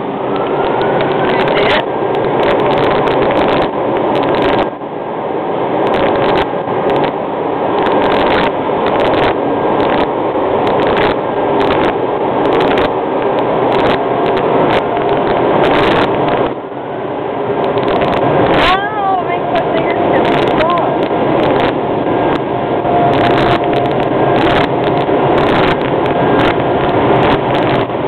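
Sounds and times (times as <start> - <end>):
car wash spray and blowers: 0.0 - 28.0.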